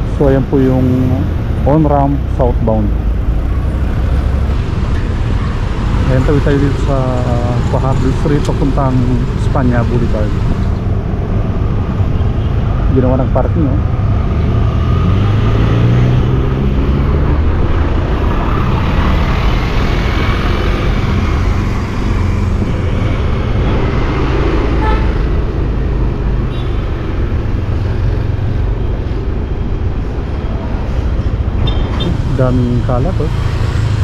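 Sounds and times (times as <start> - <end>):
road noise: 0.0 - 34.0
vehicle engines running: 0.0 - 34.0
engine speeding up: 0.9 - 34.0.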